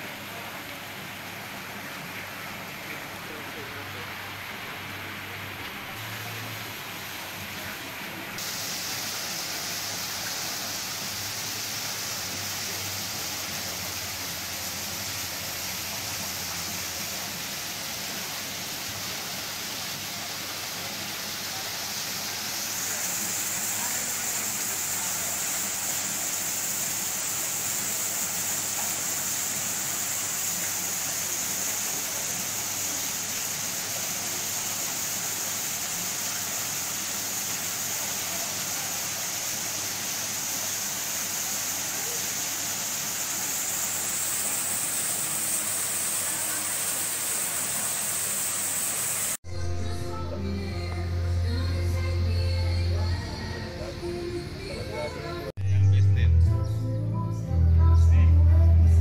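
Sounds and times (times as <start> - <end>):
water splashing into pond: 0.0 - 49.4.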